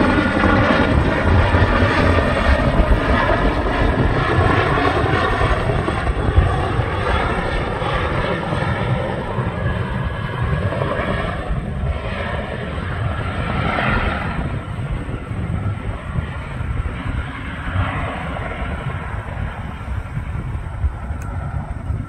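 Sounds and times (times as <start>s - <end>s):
helicopter rotor noise: 0.0s - 22.0s.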